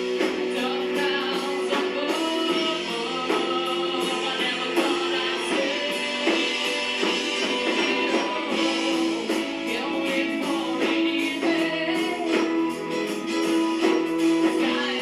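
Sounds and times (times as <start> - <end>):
drum hits: 0.0 - 15.0
live rock band playing: 0.0 - 15.0.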